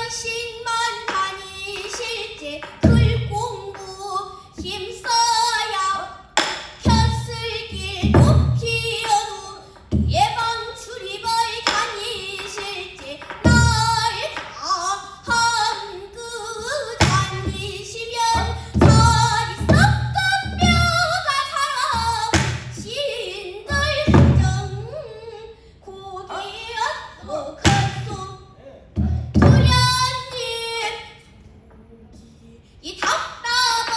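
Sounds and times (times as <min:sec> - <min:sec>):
woman singing with vibrato: 0:00.0 - 0:33.9.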